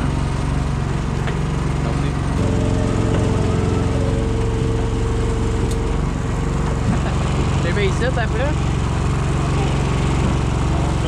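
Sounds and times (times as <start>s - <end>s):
higher steady hum: 0.0s - 11.0s
outboard motor running: 0.0s - 11.0s.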